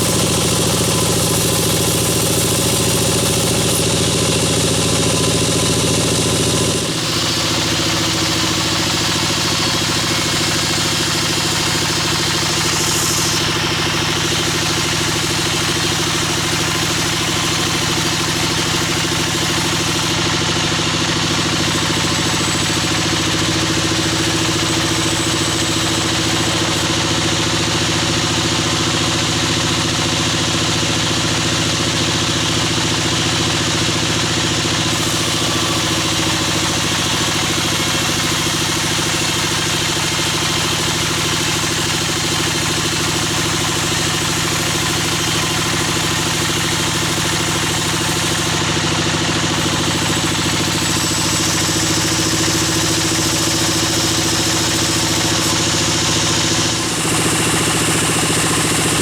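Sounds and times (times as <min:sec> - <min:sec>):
bandsaw machinery drone: 0:00.0 - 0:59.0.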